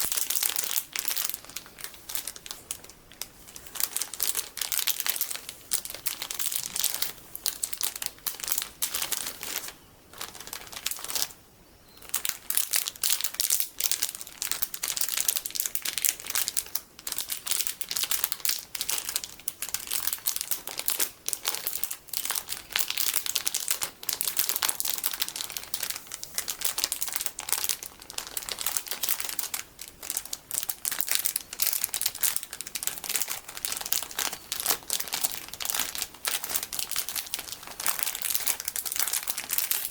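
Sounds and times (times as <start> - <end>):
plastic packaging crinkling: 0.0 - 11.4, 12.0 - 39.9.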